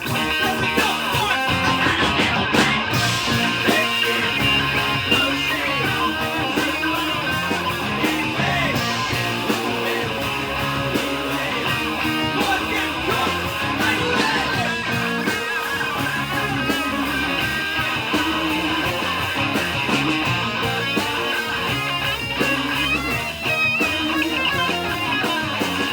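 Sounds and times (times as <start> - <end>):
electric guitar strumming: 0.0 - 25.9
indie rock band playing live: 0.0 - 25.9.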